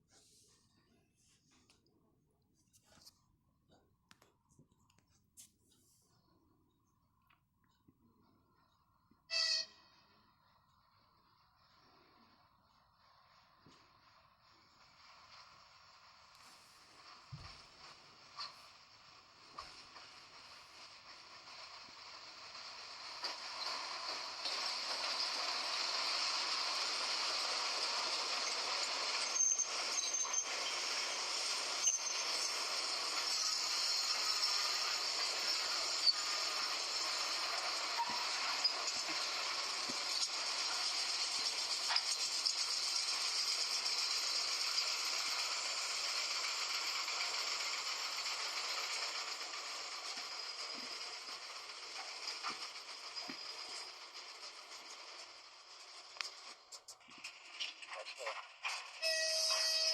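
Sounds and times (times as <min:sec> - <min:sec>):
train rail hissing: 0:10.9 - 0:59.9.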